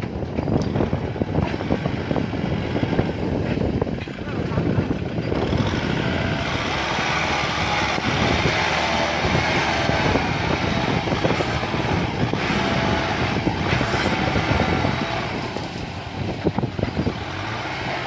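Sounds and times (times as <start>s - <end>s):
knocks and crackles: 0.0s - 17.6s
tractor diesel engine running: 0.0s - 18.0s.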